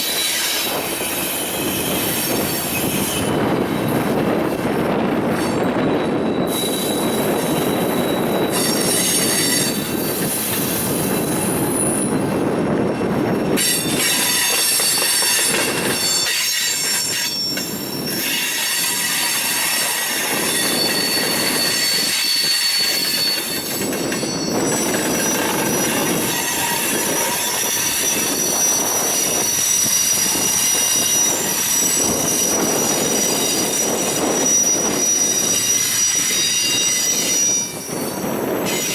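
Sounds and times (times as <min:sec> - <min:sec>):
train rumble: 0:00.0 - 0:38.9
train wheels squealing: 0:00.0 - 0:38.9.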